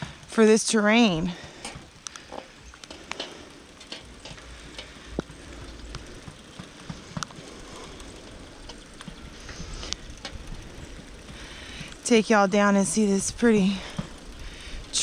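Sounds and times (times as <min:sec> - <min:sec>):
bicycle tyre and road noise: 0:00.0 - 0:15.0
bike clicks and ticks: 0:00.0 - 0:15.0.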